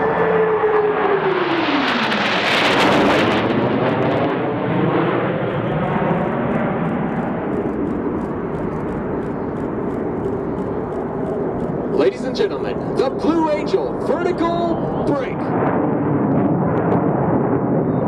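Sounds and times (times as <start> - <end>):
jet engines roaring past: 0.0 - 18.0.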